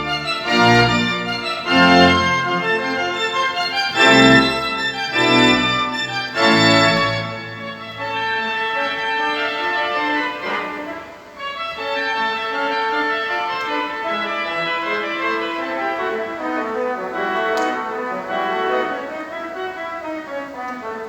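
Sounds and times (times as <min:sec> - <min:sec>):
pipe organ playing: 0:00.0 - 0:20.2.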